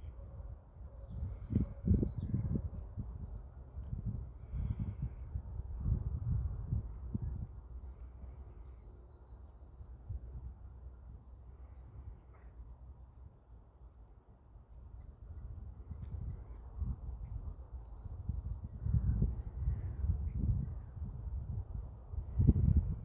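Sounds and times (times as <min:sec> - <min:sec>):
songbirds chirping: 0:00.0 - 0:05.6, 0:06.8 - 0:21.3
wind rumble on microphone: 0:00.0 - 0:12.3, 0:14.7 - 0:23.0.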